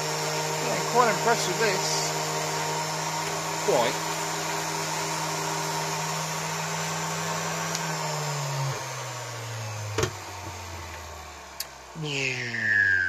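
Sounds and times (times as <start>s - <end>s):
rotary tool motor whine: 0.0s - 11.4s.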